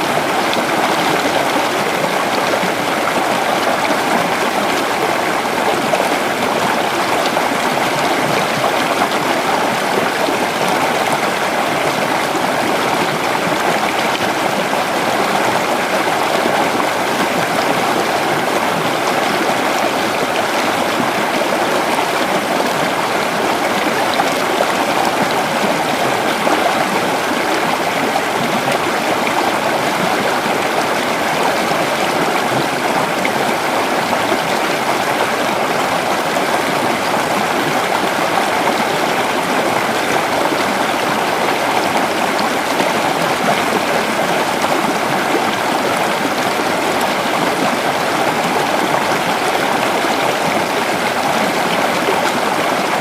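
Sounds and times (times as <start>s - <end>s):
creek flowing over stones: 0.0s - 53.0s.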